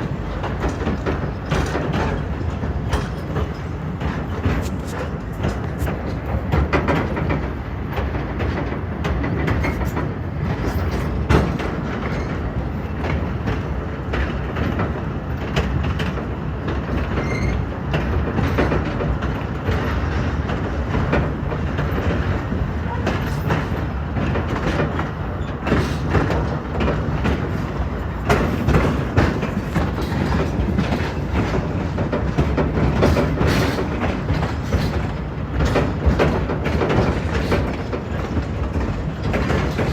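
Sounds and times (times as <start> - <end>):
train cars rattling: 0.0 - 39.9
train wheels clicking on track: 0.0 - 39.9.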